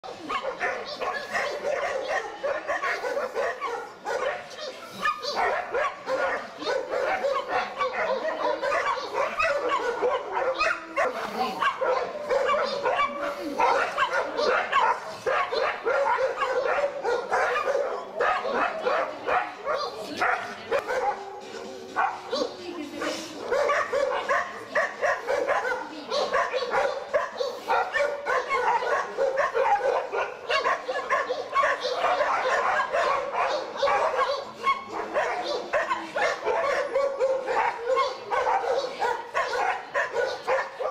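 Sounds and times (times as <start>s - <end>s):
dogs fighting yelping and barking: 0.0s - 40.9s.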